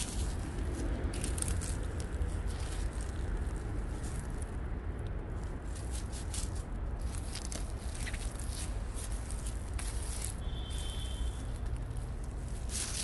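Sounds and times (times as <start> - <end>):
footsteps crunching dry leaves: 0.0 - 4.6, 5.4 - 13.0
steady low rumble: 0.0 - 13.0.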